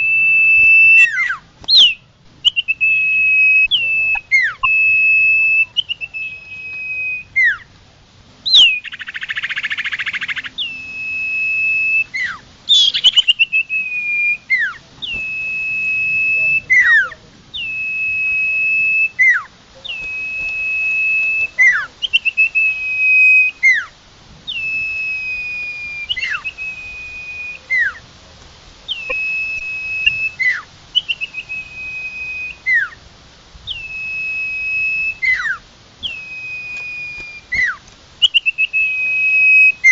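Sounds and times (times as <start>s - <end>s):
songbird whistling and trilling: 0.0s - 7.7s, 8.4s - 23.9s, 24.5s - 28.0s, 28.9s - 33.0s, 33.6s - 39.9s.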